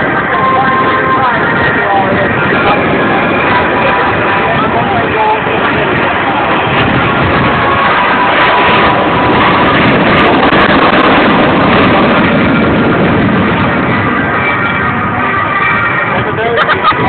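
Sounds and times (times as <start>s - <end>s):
faint whine: 0.0s - 17.0s
jet engine roar: 0.0s - 17.0s.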